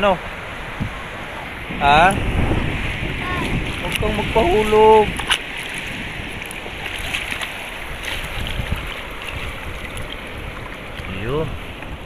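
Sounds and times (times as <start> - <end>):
wind rumbling on microphone: 0.0 - 12.0
seawater sloshing over rocks: 0.9 - 12.0.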